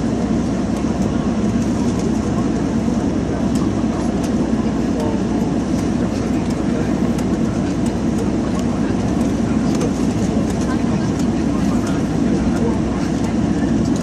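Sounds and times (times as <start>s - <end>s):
airliner cabin rumble: 0.0s - 14.0s
faint voices: 0.0s - 14.0s.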